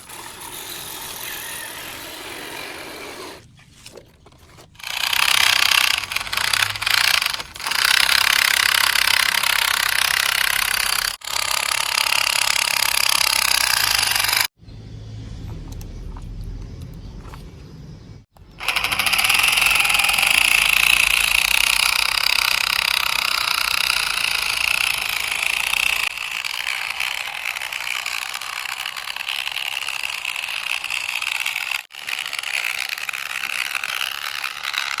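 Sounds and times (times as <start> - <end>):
toy truck electric motor whirring: 0.0 - 14.6, 18.2 - 35.0.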